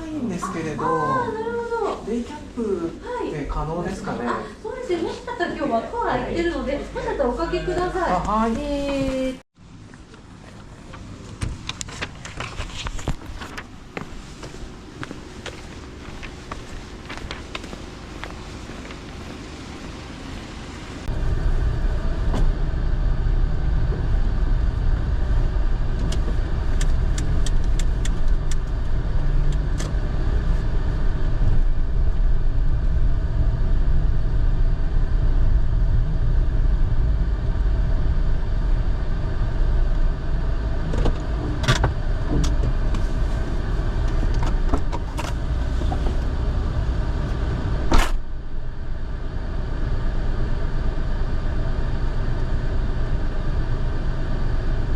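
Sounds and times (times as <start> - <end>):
car engine and road rumble: 8.6 - 54.9.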